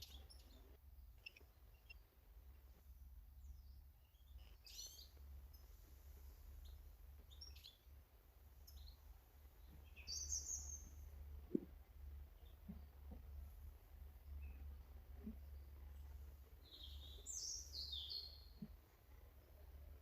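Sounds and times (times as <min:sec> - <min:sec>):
faint low hum: 0:00.0 - 0:20.0
small birds chirping: 0:00.0 - 0:20.0.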